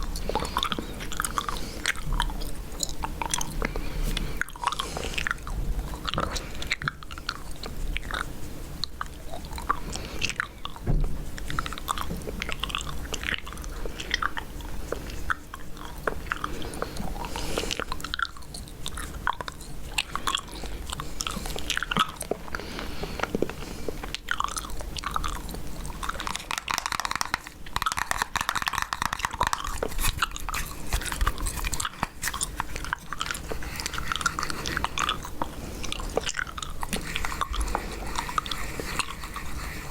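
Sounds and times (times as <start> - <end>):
gum chewing mouth clicks: 0.0 - 39.9.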